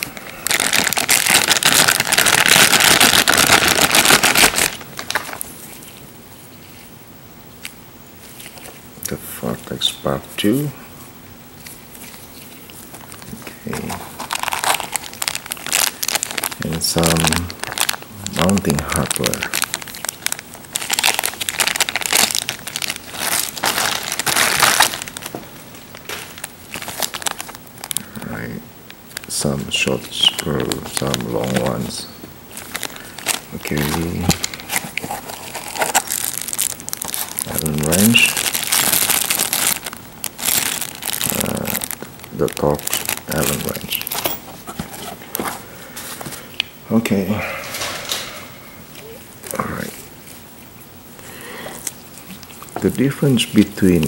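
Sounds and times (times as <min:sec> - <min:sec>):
plastic bag crinkling: 0:00.0 - 0:06.0, 0:11.6 - 0:46.6, 0:47.6 - 0:50.6, 0:51.7 - 0:54.0.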